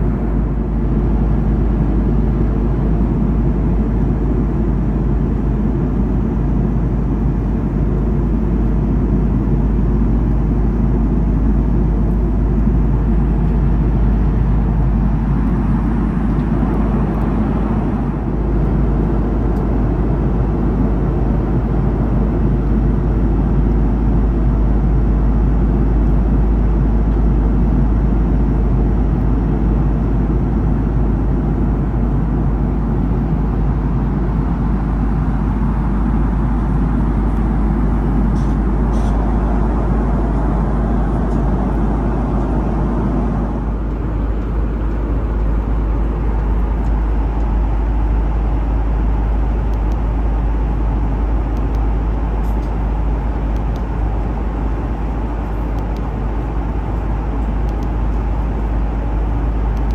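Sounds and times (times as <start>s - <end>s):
aircraft engines and airflow rumble: 0.0s - 59.9s.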